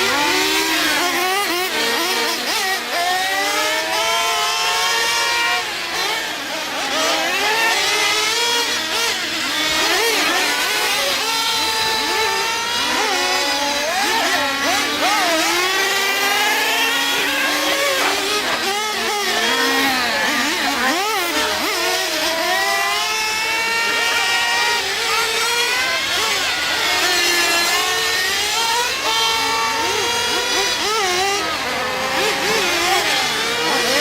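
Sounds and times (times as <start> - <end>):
small engines revving: 0.0 - 34.0.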